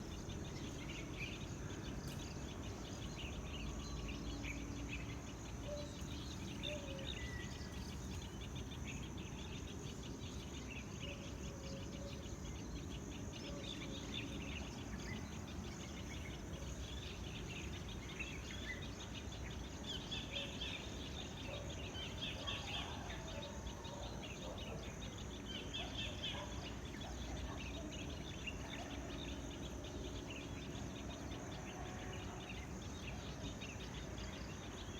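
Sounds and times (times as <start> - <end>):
birds chirping: 0.0 - 34.9
high insect drone: 0.0 - 34.9.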